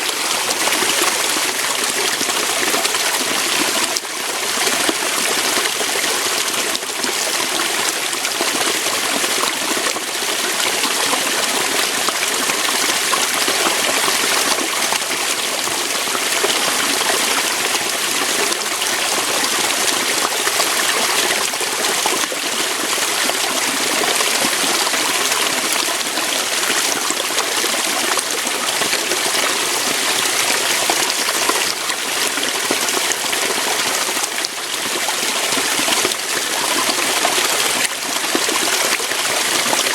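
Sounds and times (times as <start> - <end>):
waterfall splashing over rocks: 0.0 - 39.9.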